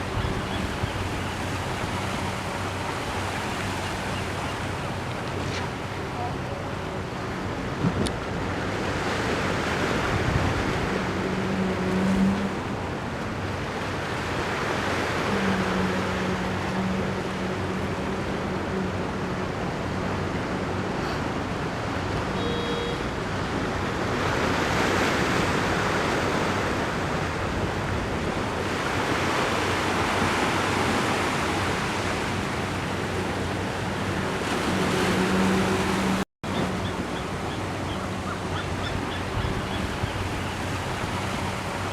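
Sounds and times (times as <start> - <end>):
waves breaking on shore: 0.0 - 41.9.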